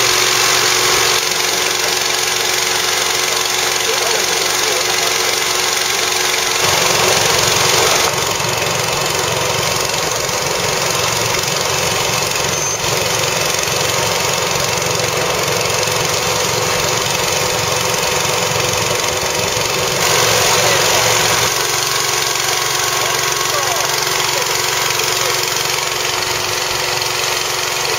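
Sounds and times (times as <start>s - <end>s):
loud motor running: 0.0s - 27.9s.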